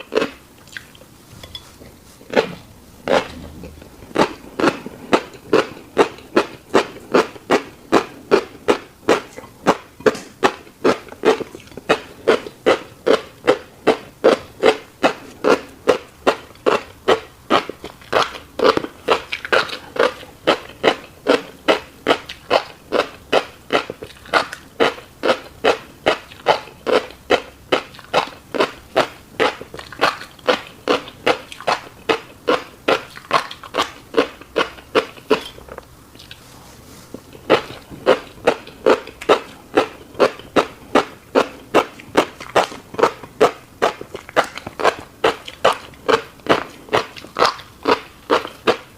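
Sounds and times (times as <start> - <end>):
chewing with wet mouth smacks: 0.0 - 36.5, 37.1 - 48.9.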